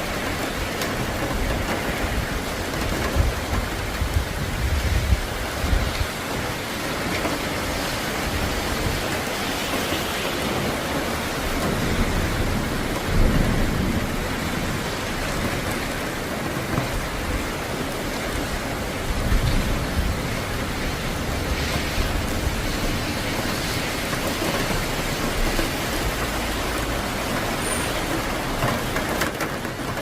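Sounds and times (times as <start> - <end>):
steady rain: 0.0 - 30.0
thunder rumbling: 0.0 - 30.0.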